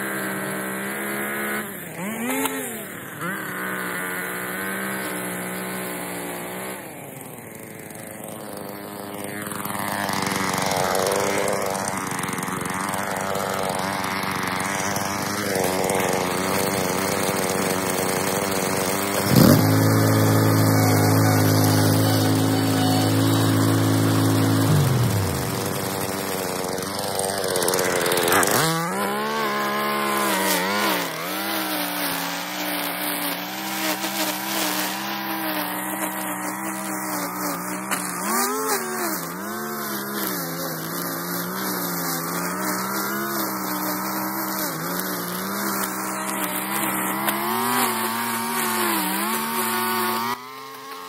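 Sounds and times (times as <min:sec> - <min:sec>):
mower engine shutting off: 0:00.0 - 0:51.0
string trimmer running: 0:00.0 - 0:51.0.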